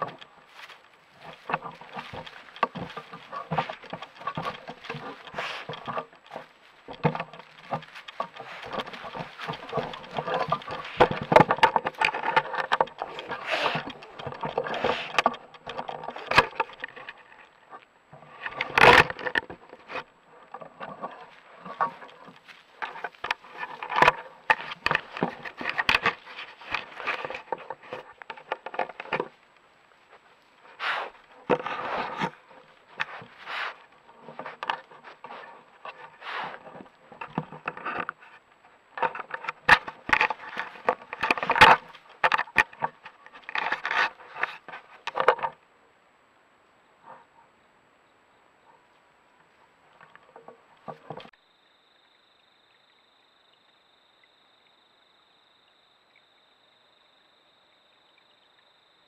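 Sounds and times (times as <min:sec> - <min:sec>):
scraping and rustling against camera: 0:00.0 - 0:45.6, 0:49.4 - 0:51.4.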